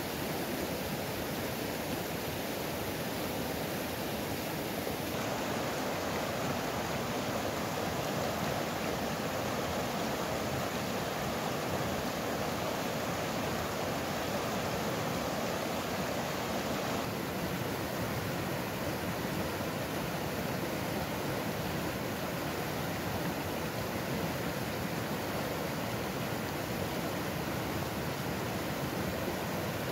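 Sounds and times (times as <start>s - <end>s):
stream rushing over rocks: 0.0s - 29.9s.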